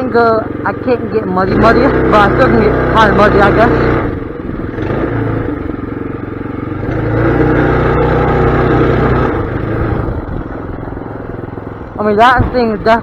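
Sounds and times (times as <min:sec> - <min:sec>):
mini bike engine revving: 0:00.0 - 0:13.0.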